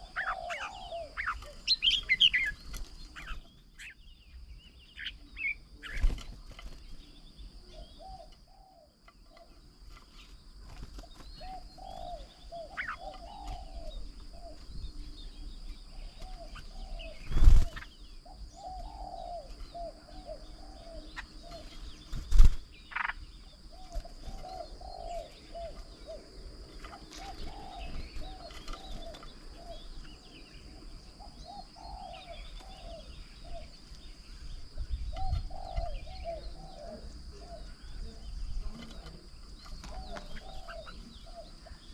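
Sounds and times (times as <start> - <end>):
doves cooing: 0.0 - 4.0, 7.5 - 9.8, 10.7 - 15.0, 15.9 - 33.8, 34.6 - 41.9
small birds chirping: 0.0 - 41.9.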